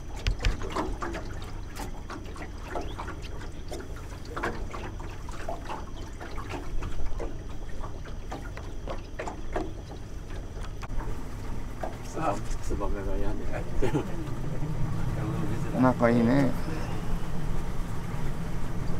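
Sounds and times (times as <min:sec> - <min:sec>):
water splashing and trickling: 0:00.0 - 0:18.9.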